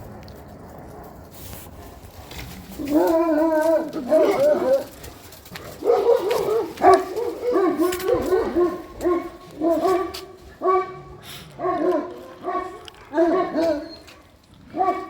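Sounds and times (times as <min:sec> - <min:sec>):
dogs barking and yelping: 0:00.3 - 0:15.0
dogs howling: 0:01.8 - 0:15.0.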